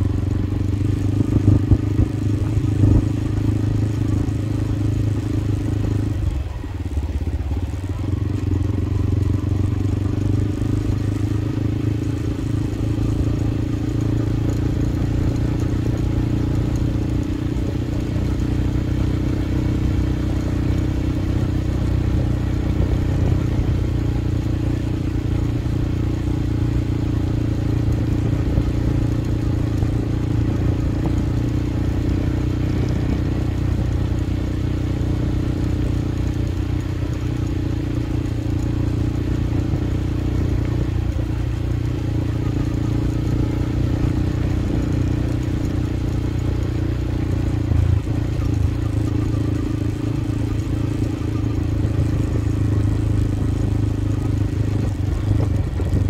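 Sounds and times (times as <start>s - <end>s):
motorcycle engine running: 0.0s - 56.0s
tyres rumbling on dirt road: 0.0s - 56.0s.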